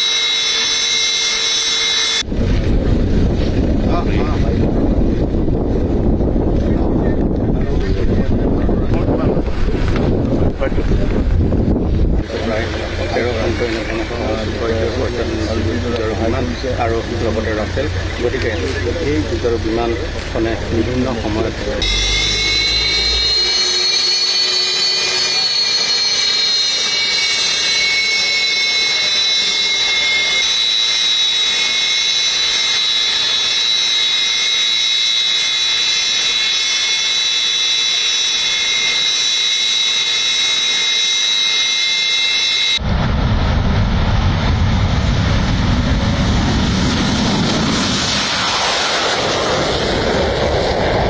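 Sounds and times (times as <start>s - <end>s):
jet turbine whistle: 0.0s - 2.4s, 7.1s - 51.0s
jet taking off roar: 0.0s - 51.0s.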